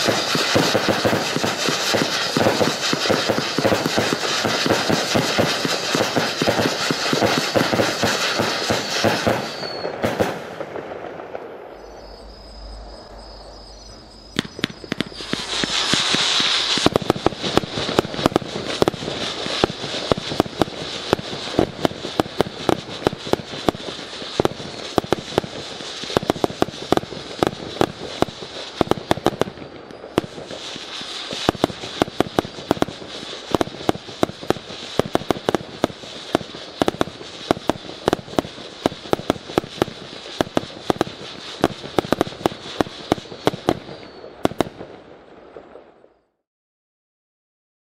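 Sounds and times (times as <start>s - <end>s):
fireworks firing shots and bursts: 0.0s - 46.1s
high whistling of firework shells: 0.0s - 46.4s.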